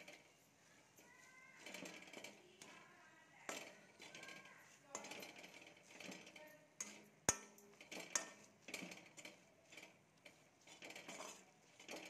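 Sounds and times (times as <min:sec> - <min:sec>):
steel spatula scraping a pan: 0:00.0 - 0:12.0.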